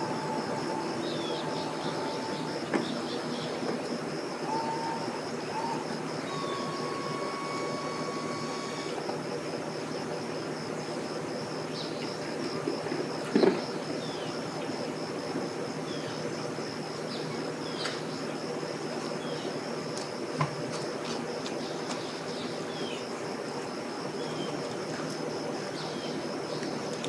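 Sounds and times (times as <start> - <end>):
constant hiss: 0.0 - 27.0.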